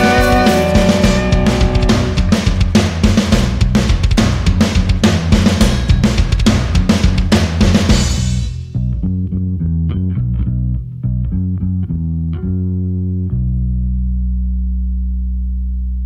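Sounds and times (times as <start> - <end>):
bass guitar notes: 0.0 - 16.0.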